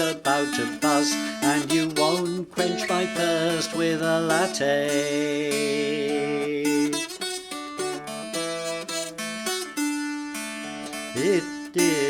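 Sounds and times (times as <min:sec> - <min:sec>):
plucked dulcimer melody: 0:02.0 - 0:12.0.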